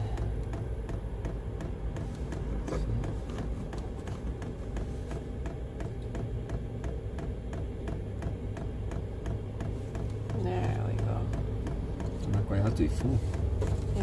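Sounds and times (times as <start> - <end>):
fuel pump ticking: 0.0 - 14.0.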